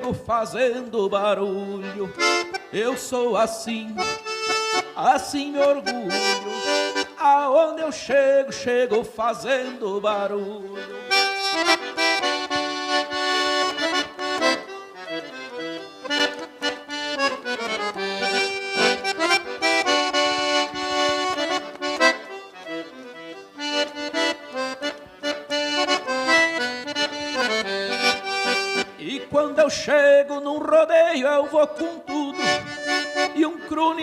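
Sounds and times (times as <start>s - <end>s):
accordion playing: 0.0s - 34.0s.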